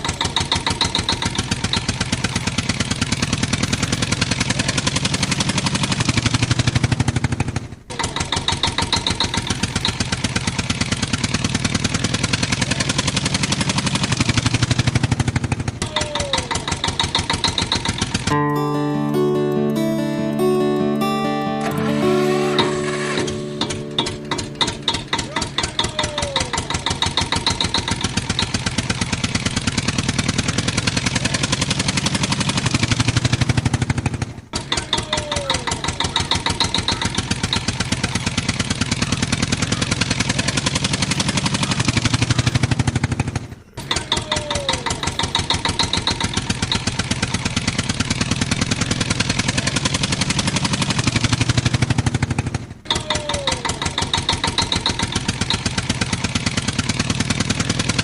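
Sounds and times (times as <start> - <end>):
engine running with rapid pulses: 0.0 - 18.3, 22.5 - 58.0.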